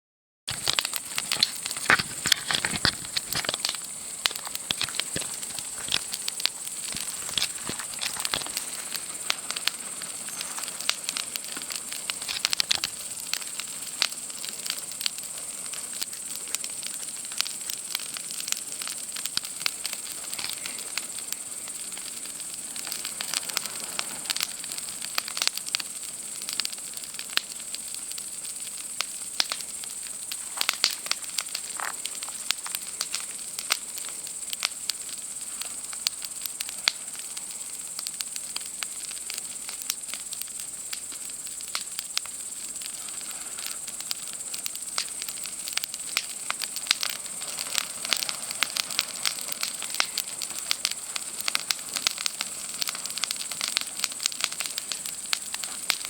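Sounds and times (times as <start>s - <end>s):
campfire crackling and popping: 0.5s - 56.0s
night insects trilling: 0.5s - 56.0s.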